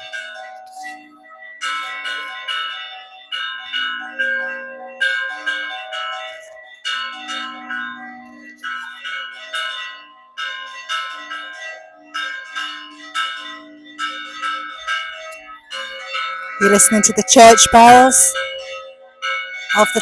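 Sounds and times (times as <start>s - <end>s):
church bells ringing: 0.0s - 20.0s
deep bell: 0.0s - 20.0s.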